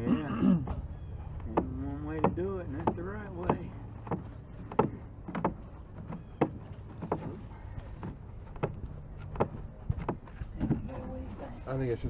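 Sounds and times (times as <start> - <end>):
plastic pipe knocking and scraping: 0.6 - 11.3.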